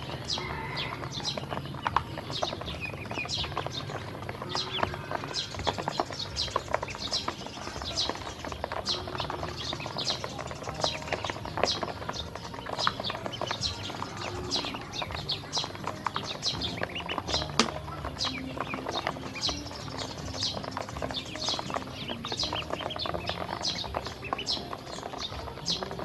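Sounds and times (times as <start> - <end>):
bills tapping on feed: 0.0 - 26.0
ducklings peeping: 0.0 - 26.0.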